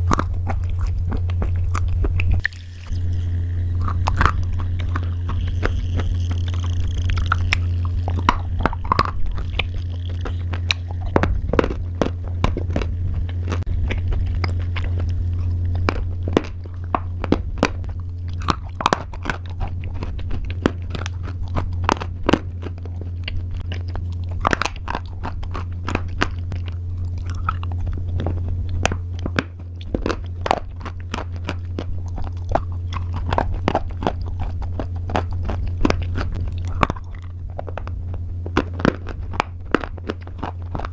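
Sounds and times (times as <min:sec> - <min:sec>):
person crunching pasta: 0:00.0 - 0:40.9
steady low hum: 0:00.0 - 0:40.9.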